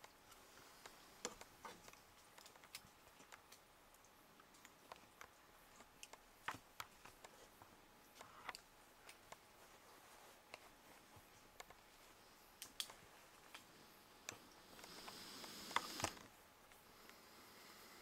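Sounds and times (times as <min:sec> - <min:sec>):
faint irregular clicks: 0:00.0 - 0:17.3.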